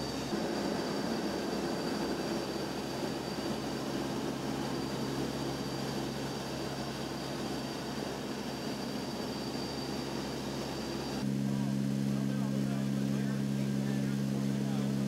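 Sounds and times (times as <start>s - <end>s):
high engine whine: 0.0s - 15.0s
turboprop engines droning: 0.0s - 15.0s.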